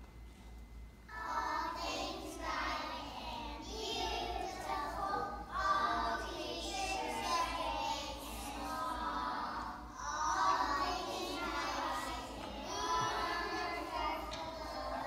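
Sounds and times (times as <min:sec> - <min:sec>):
young children singing: 0:01.1 - 0:15.0.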